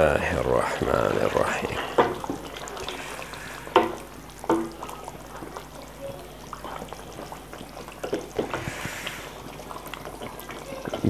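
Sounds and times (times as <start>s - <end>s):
spoon stirring sloshing gravy: 0.2s - 11.0s.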